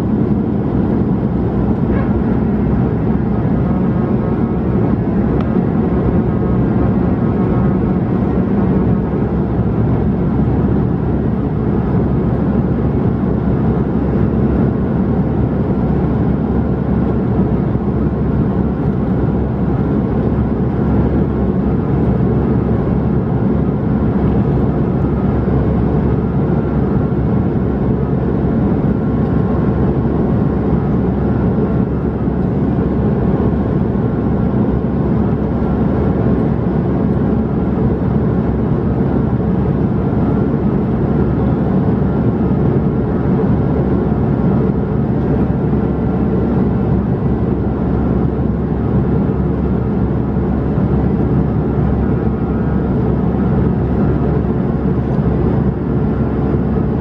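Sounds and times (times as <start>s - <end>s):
airliner engines rumbling: 0.0s - 57.0s.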